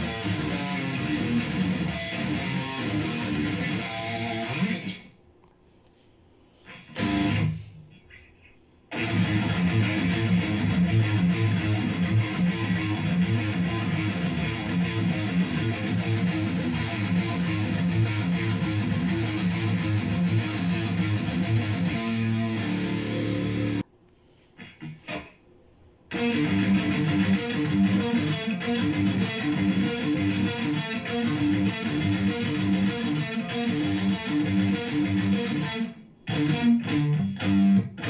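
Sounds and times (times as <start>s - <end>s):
distorted electric guitar riffing: 0.0s - 5.1s, 6.7s - 7.8s, 8.9s - 23.8s, 26.1s - 38.0s.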